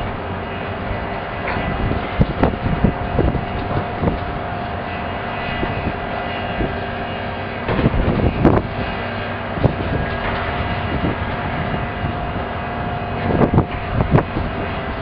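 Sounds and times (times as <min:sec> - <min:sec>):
excavator diesel engines running: 0:00.0 - 0:15.0.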